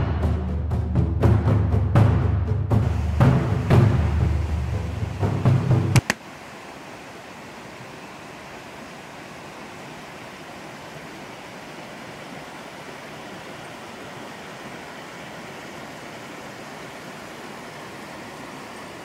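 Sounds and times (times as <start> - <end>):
steady rushing noise: 2.8 - 19.0.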